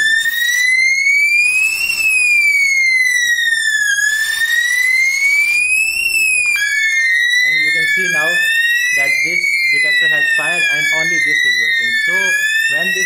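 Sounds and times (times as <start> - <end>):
sweeping alarm siren: 0.0 - 13.0.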